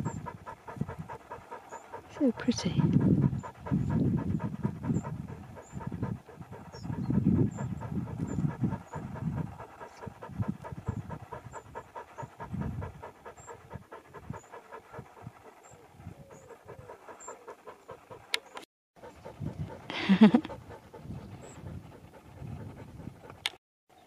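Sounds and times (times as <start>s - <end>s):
dog panting: 0.0s - 23.6s.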